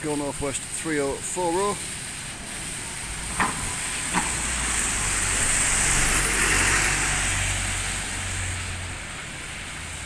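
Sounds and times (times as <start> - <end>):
tyre and road noise: 0.0 - 10.0.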